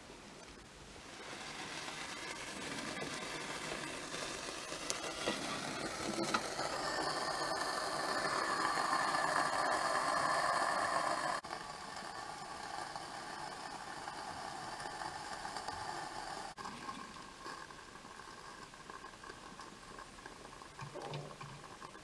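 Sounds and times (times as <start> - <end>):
steam hiss: 0.9 - 19.0.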